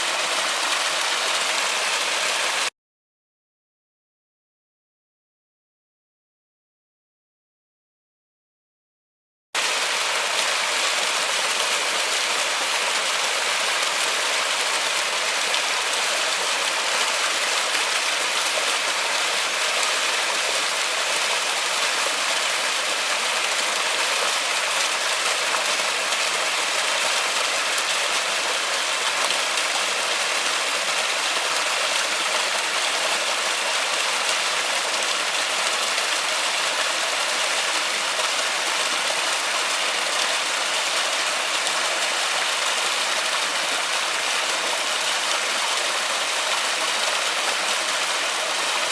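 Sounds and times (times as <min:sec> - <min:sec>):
steady rain in a forest: 0:00.0 - 0:02.7, 0:09.6 - 0:48.9.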